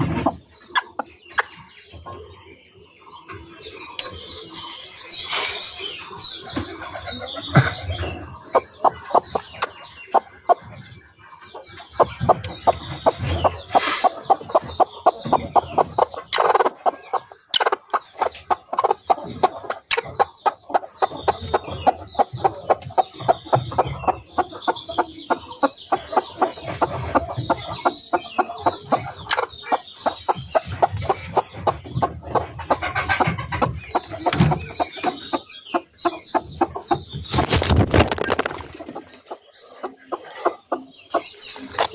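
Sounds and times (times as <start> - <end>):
hens clucking rapidly: 6.5 - 41.9.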